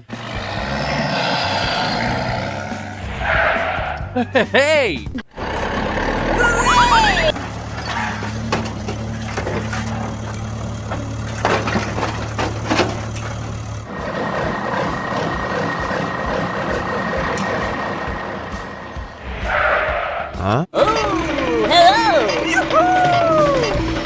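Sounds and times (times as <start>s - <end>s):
truck engine running: 0.0s - 24.0s
vehicle with held higher tone: 0.0s - 24.0s.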